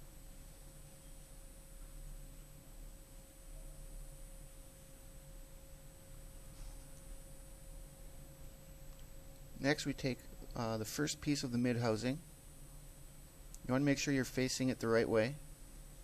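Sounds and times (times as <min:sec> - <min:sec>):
faint electrical whine: 0:00.0 - 0:16.0
low electrical hum: 0:00.0 - 0:16.0.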